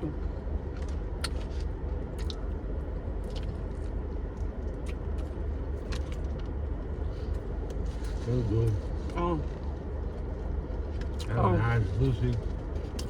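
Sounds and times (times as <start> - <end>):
low hum: 0.0 - 13.0
chewing crunchy food: 0.6 - 9.2, 10.1 - 11.4, 12.1 - 13.0.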